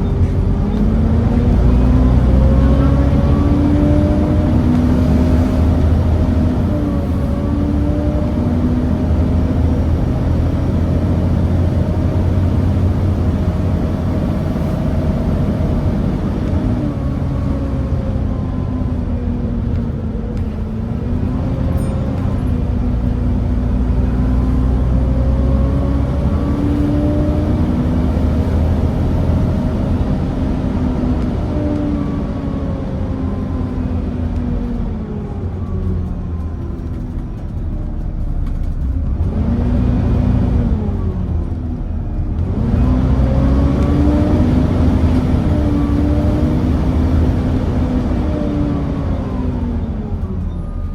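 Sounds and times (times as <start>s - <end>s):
bus diesel engine running: 0.0s - 50.9s.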